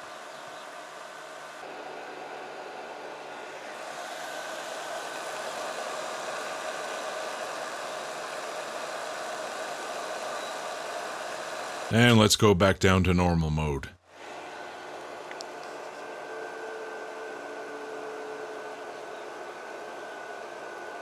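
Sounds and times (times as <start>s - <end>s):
air conditioner fan rushing: 0.0s - 11.9s, 14.1s - 21.0s.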